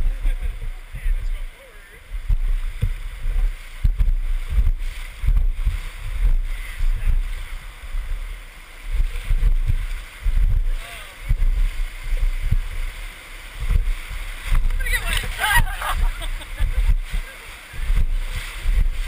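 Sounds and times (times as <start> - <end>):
whitewater rushing: 0.0 - 19.0
buffeting thumps on microphone: 2.1 - 19.0.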